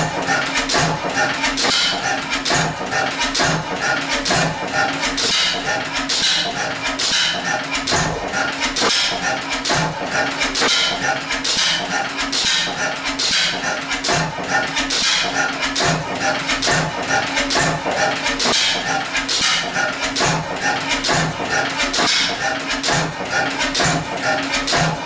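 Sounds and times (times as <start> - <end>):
stationary engine clattering: 0.0 - 25.0.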